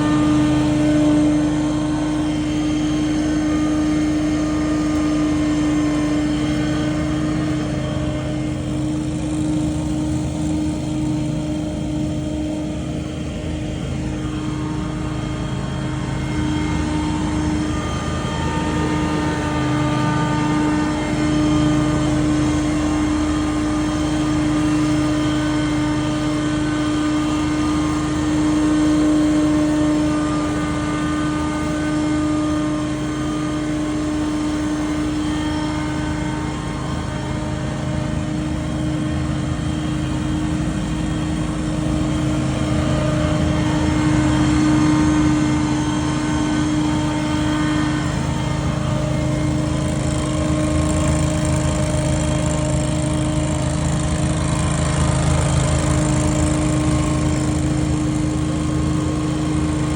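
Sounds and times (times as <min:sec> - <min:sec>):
debris blower droning: 0:00.0 - 0:59.9.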